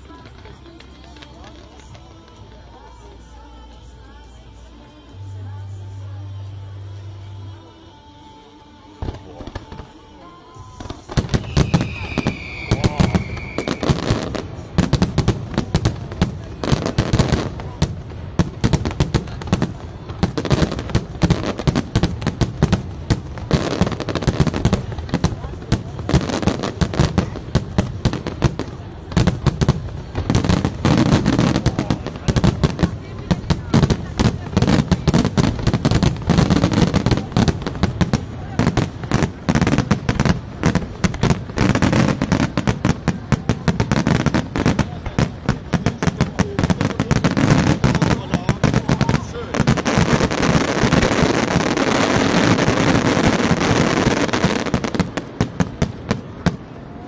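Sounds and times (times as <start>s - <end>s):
fireworks bursting: 0.0s - 6.2s, 8.2s - 57.0s.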